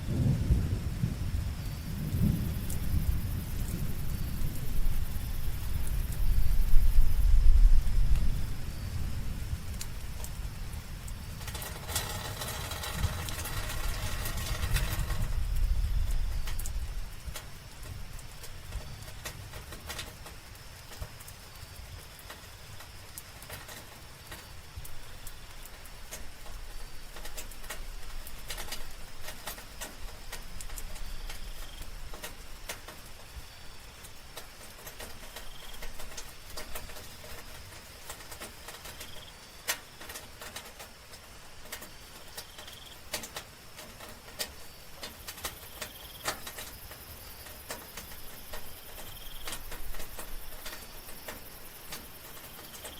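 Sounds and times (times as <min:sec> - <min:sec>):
night insects droning: 0:00.0 - 0:52.9
rain drops pattering: 0:00.0 - 0:52.9.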